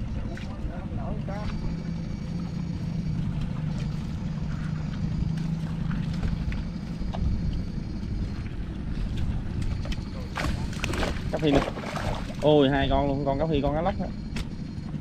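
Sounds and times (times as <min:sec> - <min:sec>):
faint high whine: 0:00.0 - 0:15.0
small engine running: 0:00.0 - 0:15.0.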